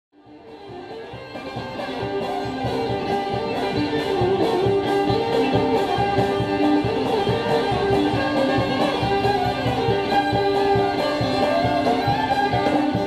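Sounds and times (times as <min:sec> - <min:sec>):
banjo picking: 0:00.2 - 0:13.0
fiddle playing held notes: 0:00.2 - 0:13.0
old-time string band music: 0:00.2 - 0:13.0.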